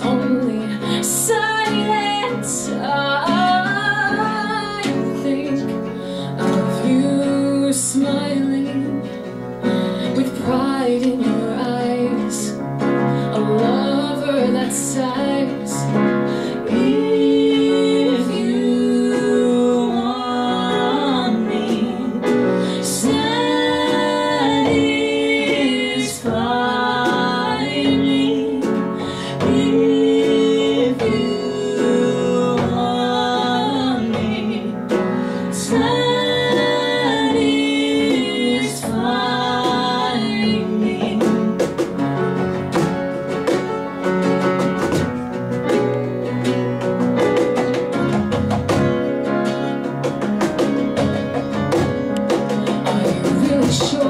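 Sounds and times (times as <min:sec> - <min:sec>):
woman singing: 0:00.0 - 0:43.0, 0:50.6 - 0:54.0
cajon: 0:00.0 - 0:54.0
strummed acoustic guitar: 0:00.0 - 0:54.0
upright piano: 0:00.0 - 0:54.0.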